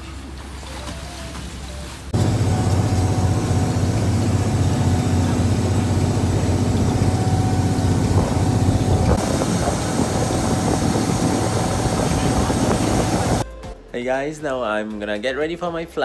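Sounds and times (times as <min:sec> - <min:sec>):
boat engine low drone: 0:00.0 - 0:13.4.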